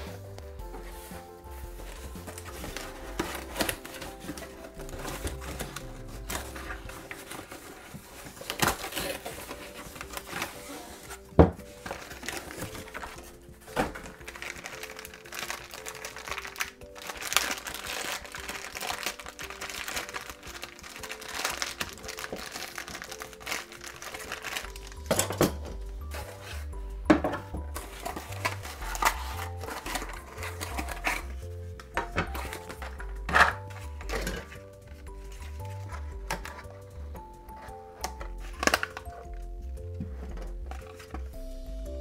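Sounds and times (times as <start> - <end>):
cardboard crinkling and crackling: 0.0 - 41.5
background music: 0.0 - 42.0.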